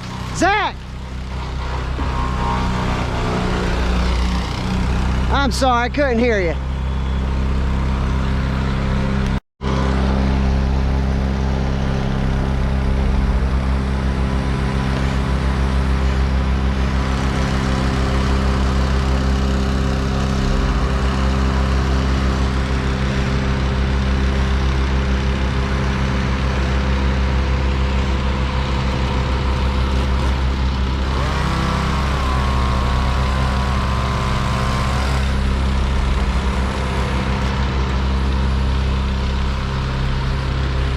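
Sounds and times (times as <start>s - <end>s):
large engine running: 0.0s - 40.9s.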